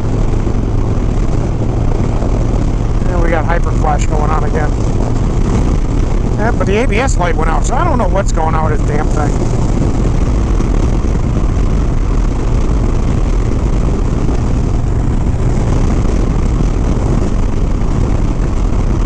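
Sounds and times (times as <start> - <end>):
motorcycle engine cruising: 0.0 - 19.0
wind noise on microphone: 0.0 - 19.0.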